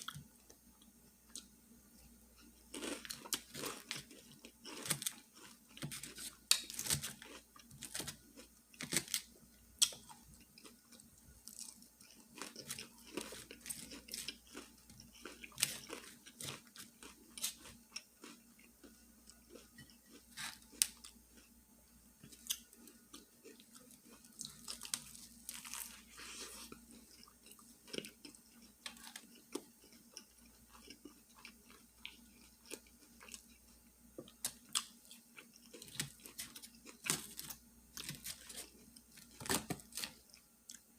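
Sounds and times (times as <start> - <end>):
chewing and crunching food: 0.0 - 21.6, 22.2 - 40.9.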